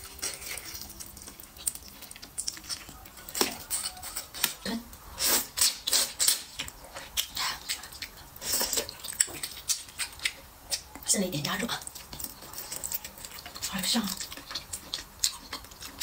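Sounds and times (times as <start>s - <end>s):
wet chewing and lip smacks: 0.0s - 4.6s, 5.3s - 11.1s, 11.7s - 16.0s.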